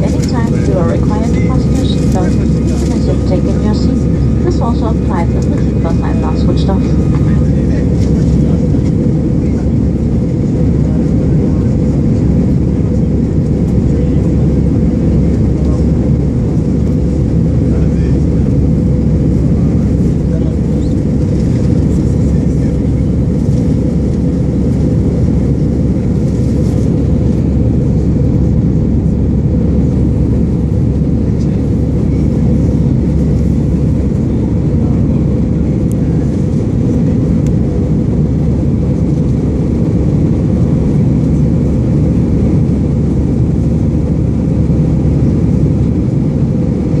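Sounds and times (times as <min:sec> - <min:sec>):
aircraft engines rumbling in cabin: 0:00.0 - 0:47.0.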